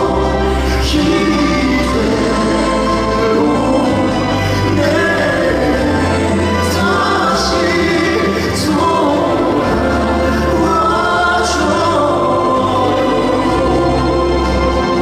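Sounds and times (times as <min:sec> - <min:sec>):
male voices singing in harmony: 0:00.0 - 0:15.0.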